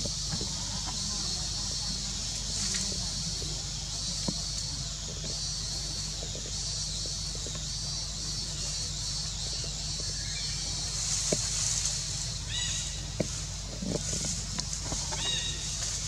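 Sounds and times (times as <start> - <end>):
high-pitched insect chorus: 0.0 - 16.0
rustles on dry leaves: 0.0 - 16.0
steady low hum: 0.0 - 16.0.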